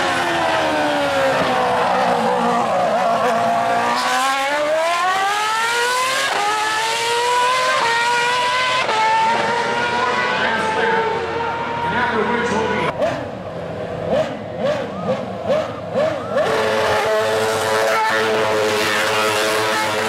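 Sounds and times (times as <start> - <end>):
race car engine revving: 0.0 - 20.0
quick gear upshifts: 0.5 - 20.0.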